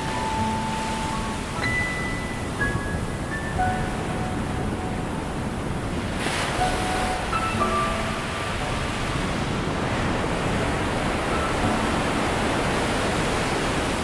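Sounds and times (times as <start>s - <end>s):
ocean surf rushing: 0.0s - 14.0s.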